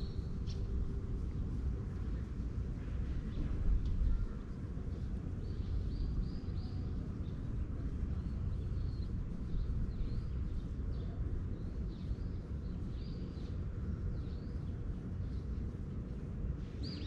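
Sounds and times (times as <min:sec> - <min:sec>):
steady low rumble: 0:00.0 - 0:17.0
small birds chirping: 0:03.2 - 0:17.0.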